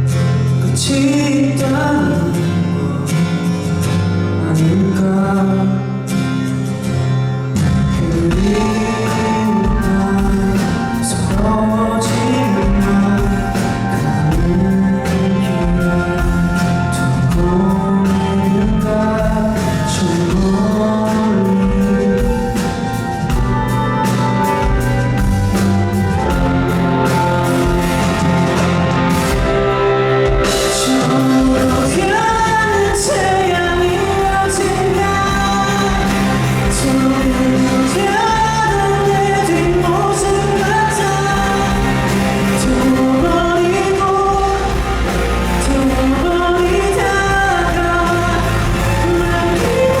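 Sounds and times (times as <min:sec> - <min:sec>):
man singing: 0:00.0 - 0:06.6, 0:07.5 - 0:50.0
pop-rock band playing: 0:00.0 - 0:50.0
drums steady beat: 0:07.6 - 0:50.0.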